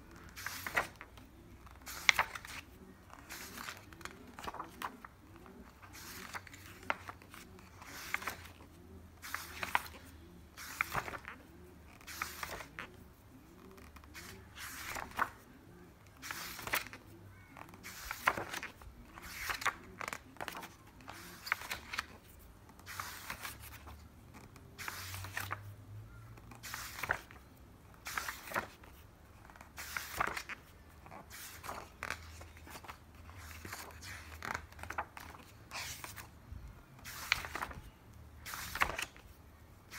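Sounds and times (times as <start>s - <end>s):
book pages turning: 0.1s - 39.9s.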